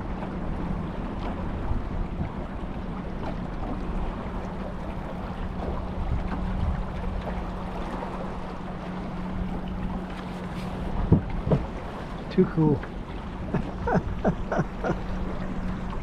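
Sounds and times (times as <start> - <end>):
low wind rumble: 0.0 - 16.0
steady engine hum: 0.0 - 16.0
water noise: 0.0 - 16.0.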